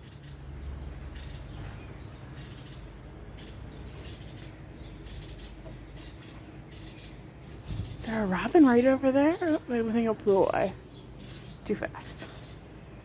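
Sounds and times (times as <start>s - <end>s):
low background rumble: 0.0s - 13.0s
songbirds chirping: 0.0s - 13.0s.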